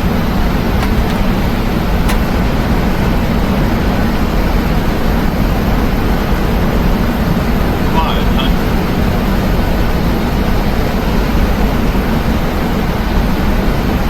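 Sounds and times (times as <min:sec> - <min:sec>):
airliner cabin engine roar: 0:00.0 - 0:14.0.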